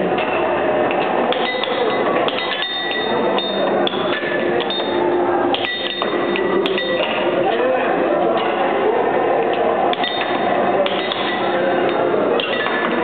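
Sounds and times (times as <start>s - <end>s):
puck and mallets clacking: 0.2s - 8.7s, 9.4s - 13.0s.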